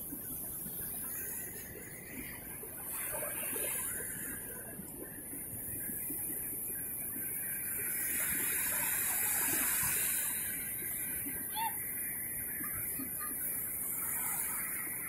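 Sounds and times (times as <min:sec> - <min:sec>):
small waves on sandy shore: 0:00.0 - 0:15.0.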